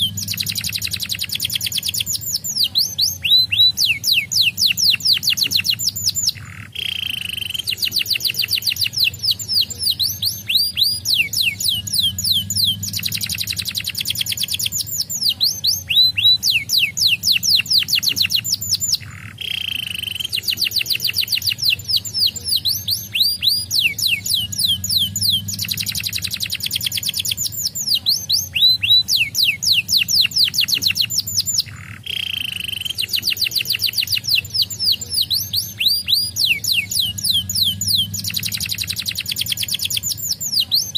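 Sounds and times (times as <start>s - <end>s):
canary singing trills: 0.0s - 40.9s
low buzzy bird phrase: 0.0s - 40.9s.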